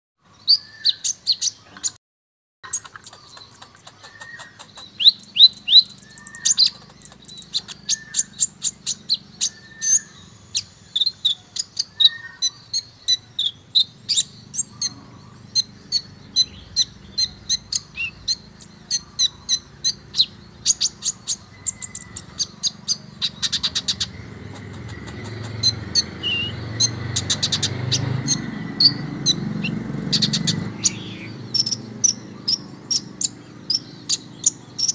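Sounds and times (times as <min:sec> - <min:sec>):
sunbird singing chips and trills: 0:00.3 - 0:02.0, 0:02.6 - 0:34.9.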